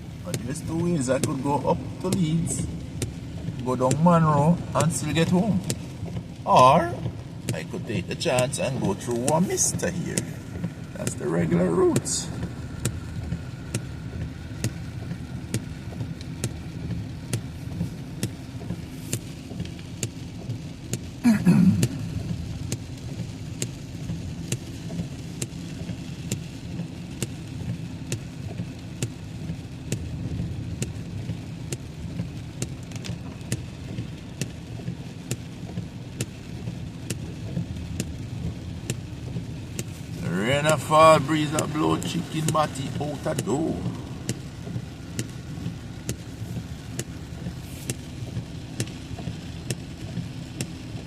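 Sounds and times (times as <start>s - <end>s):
car driving in heavy rain: 0.0s - 51.0s
repeated sharp ticks: 0.3s - 17.6s, 21.8s - 51.0s.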